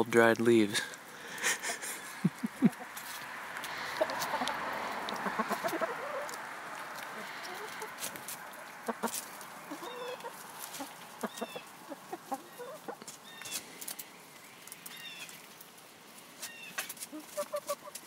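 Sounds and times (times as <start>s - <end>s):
hens clucking: 0.9s - 15.6s, 16.4s - 18.0s
hens scratching in compost: 1.0s - 18.0s.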